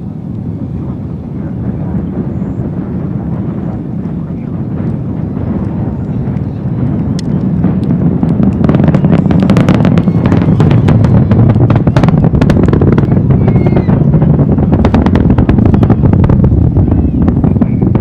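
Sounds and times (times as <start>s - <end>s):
distant rocket rumble and crackle: 0.0s - 18.0s.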